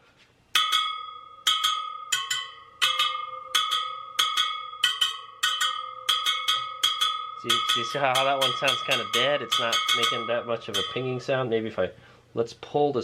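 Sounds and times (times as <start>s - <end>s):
motorcycle spokes pinging: 0.5s - 11.6s.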